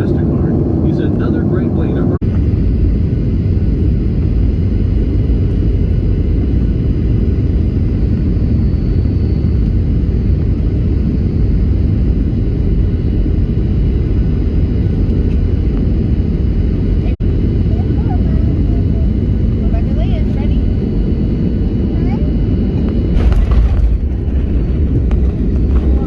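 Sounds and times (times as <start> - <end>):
faint steady whines: 0.0 - 26.0
jet engine rumble: 0.0 - 26.0.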